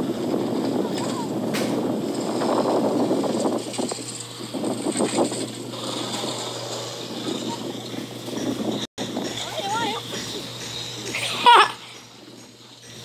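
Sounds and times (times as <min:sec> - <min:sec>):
wind on microphone: 0:00.0 - 0:11.0
bicycle rattling over bumpy road: 0:00.0 - 0:13.0.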